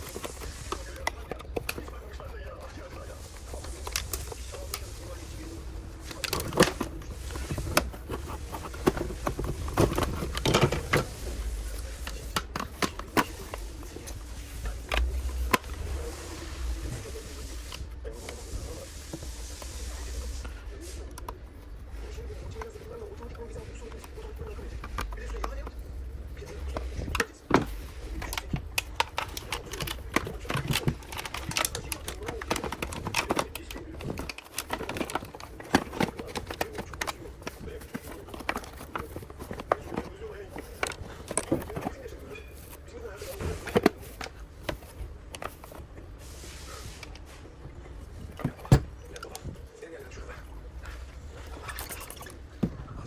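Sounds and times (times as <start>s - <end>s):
small hard parts clicking and knocking: 0.0s - 46.0s
steady low hum: 0.0s - 53.0s.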